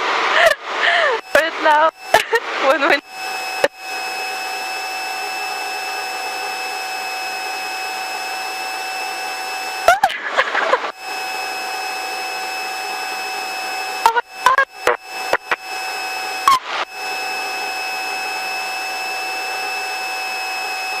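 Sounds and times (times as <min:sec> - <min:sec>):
high whine: 0:00.0 - 0:21.0.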